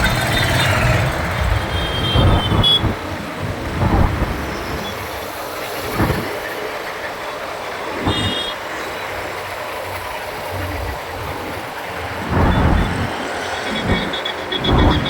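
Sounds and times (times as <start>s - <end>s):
motorbike engine and road noise: 0.0s - 15.0s.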